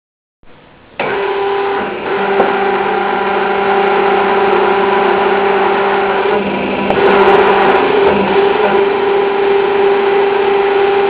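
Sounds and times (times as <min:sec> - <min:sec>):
hydraulic pump motor humming: 0:00.9 - 0:11.0.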